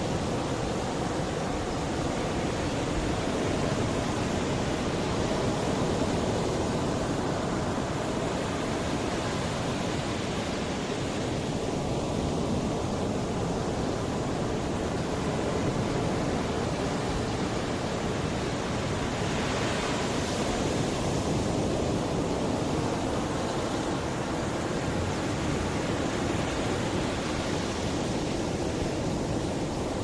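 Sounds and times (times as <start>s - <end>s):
sea waves washing ashore: 0.0s - 30.0s.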